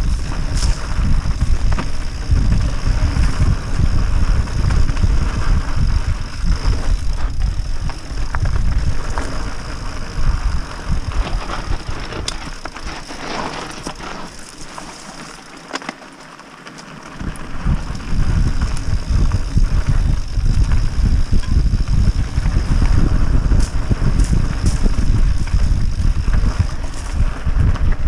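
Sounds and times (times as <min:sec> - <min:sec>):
wind buffeting microphone: 0:00.0 - 0:14.2, 0:17.2 - 0:28.0
bike clicks and rattles: 0:00.0 - 0:28.0.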